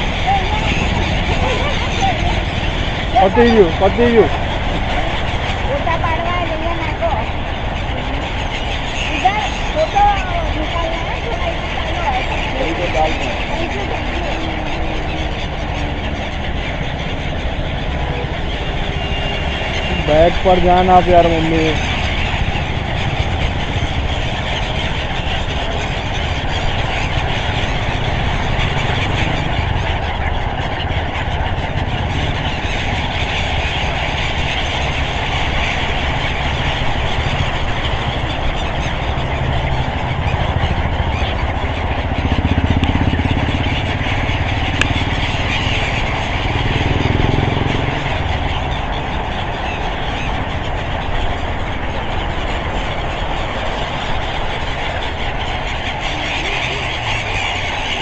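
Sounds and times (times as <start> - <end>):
road traffic: 0.0 - 58.0
vehicles passing close: 0.0 - 58.0.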